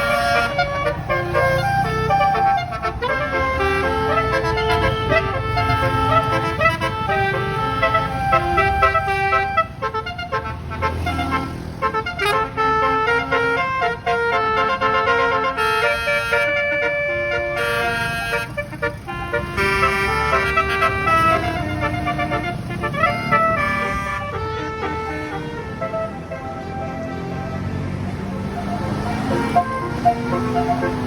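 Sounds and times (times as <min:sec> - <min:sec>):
bus engine rumble: 0:00.0 - 0:31.0
bus horn playing melody: 0:00.0 - 0:31.0.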